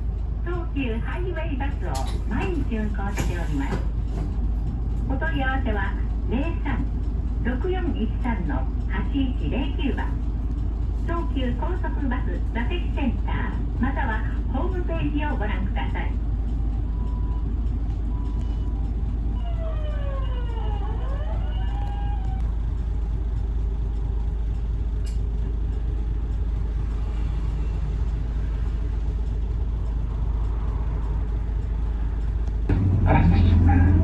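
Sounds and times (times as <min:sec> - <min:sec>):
bus engine and road rumble: 0:00.0 - 0:34.0
bus motor whine: 0:00.0 - 0:34.0.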